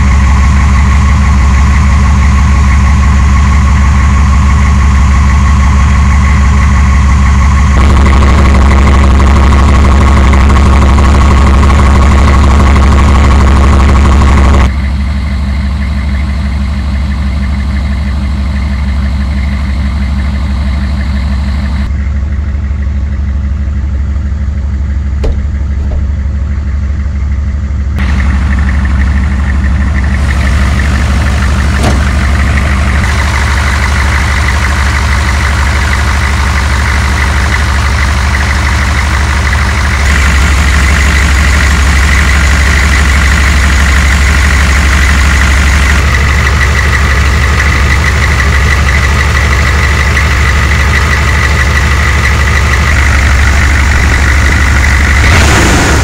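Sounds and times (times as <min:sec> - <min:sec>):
diesel engine idling: 0:00.0 - 0:56.0
turbo whine: 0:00.0 - 0:56.0.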